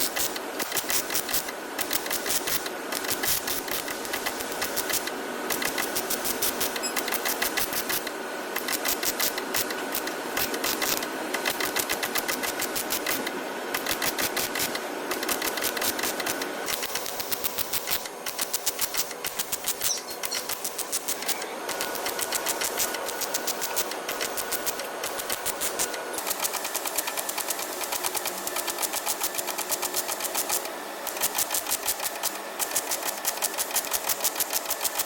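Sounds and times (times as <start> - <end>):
rapid mechanical clatter: 0.0 - 35.0.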